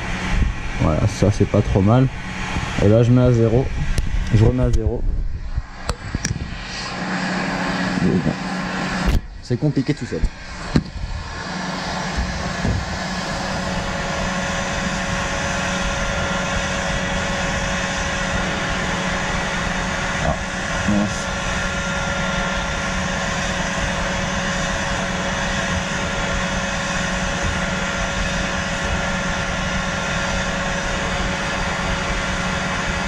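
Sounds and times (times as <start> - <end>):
thin whine: 0.0 - 33.0
workshop machinery hum: 0.0 - 33.0.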